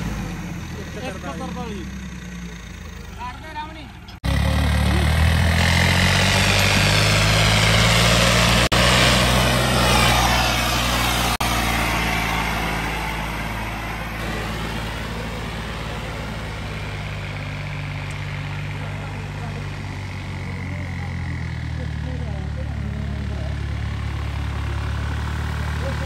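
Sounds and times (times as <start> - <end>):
tractor engine labouring: 0.0 - 26.0.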